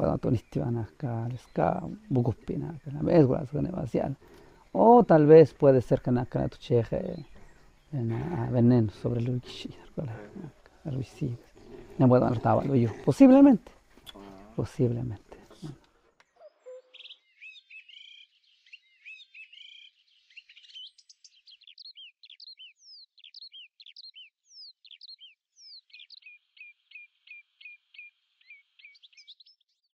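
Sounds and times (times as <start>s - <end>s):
birds chirping: 0.0s - 29.7s.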